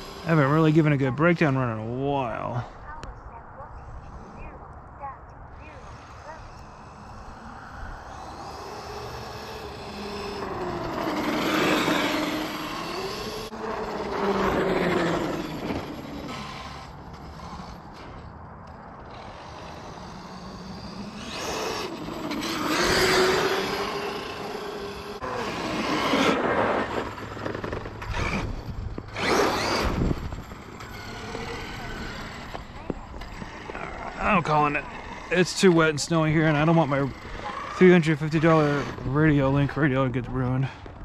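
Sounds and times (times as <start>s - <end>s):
electric motor whining: 0.0s - 2.7s, 3.8s - 40.0s.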